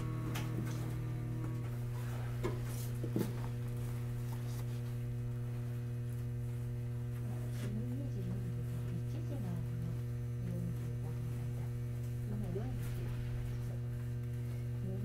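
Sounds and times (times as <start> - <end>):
electrical hum in tram cabin: 0.0 - 15.0.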